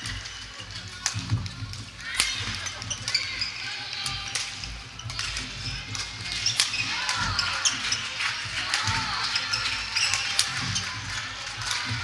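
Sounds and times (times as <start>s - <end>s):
echoing hall noise: 0.0s - 12.0s.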